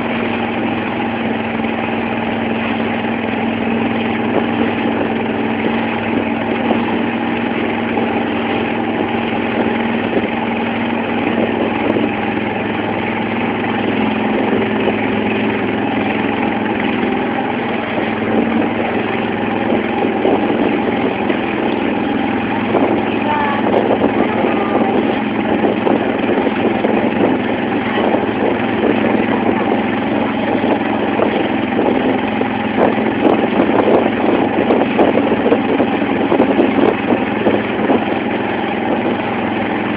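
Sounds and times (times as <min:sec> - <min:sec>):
motorboat engine running: 0:00.0 - 0:39.9
water splashing along hull: 0:00.0 - 0:39.9.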